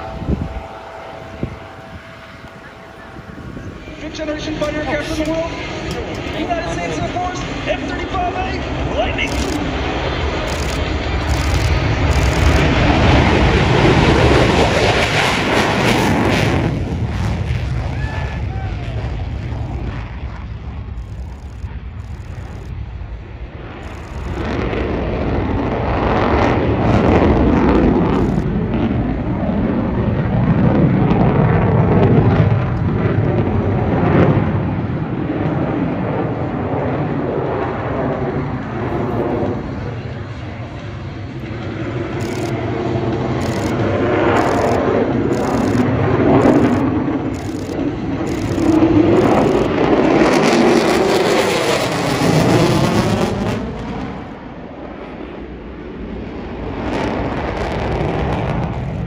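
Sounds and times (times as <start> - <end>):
aircraft engine rushing overhead: 0.0 - 59.0.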